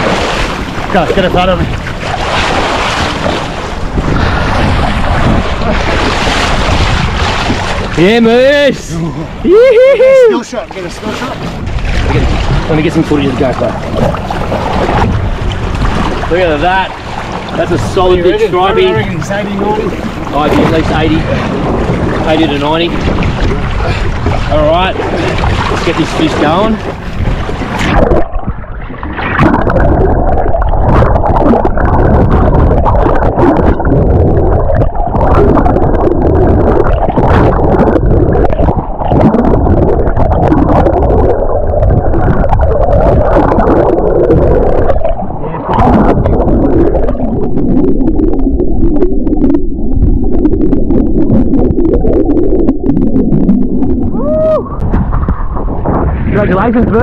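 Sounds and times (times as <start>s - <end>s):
underwater rushing and gurgling: 0.0s - 57.0s.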